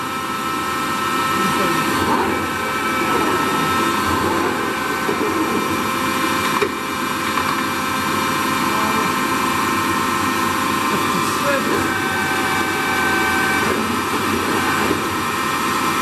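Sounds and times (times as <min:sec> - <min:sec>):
lathe gear drive whine: 0:00.0 - 0:16.0.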